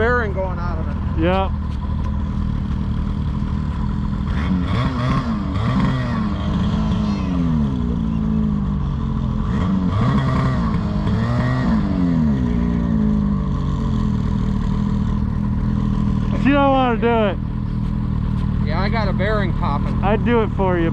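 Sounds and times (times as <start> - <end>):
engine idling: 0.0 - 20.9
engine revving: 2.2 - 20.9.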